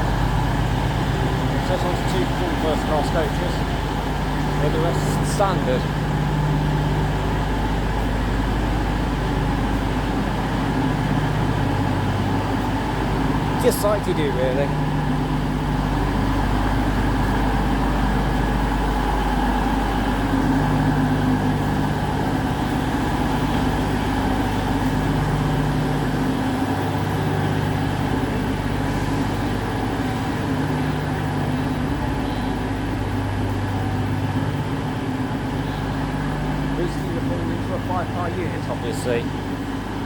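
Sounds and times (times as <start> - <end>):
diesel train engines idling: 0.0 - 40.0.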